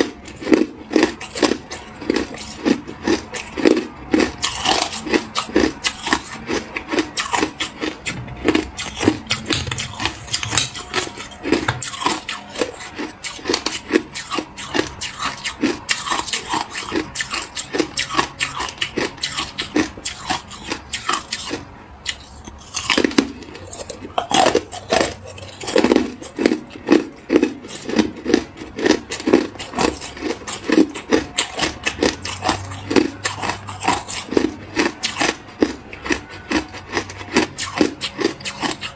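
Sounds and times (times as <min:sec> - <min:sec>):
ice being bitten and chewed: 0:00.0 - 0:38.9.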